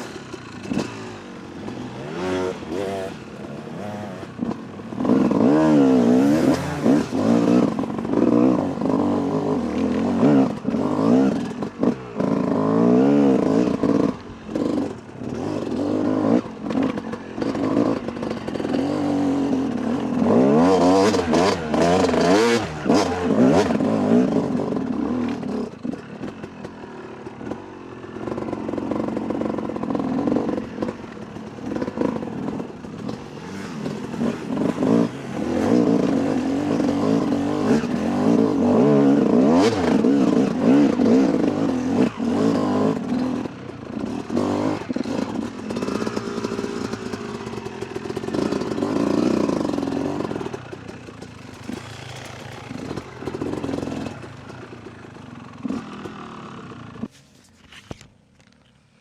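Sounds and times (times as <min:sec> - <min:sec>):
dirt bike engine revving: 0:00.0 - 0:57.1
bike rattling over rough ground: 0:00.0 - 0:59.0.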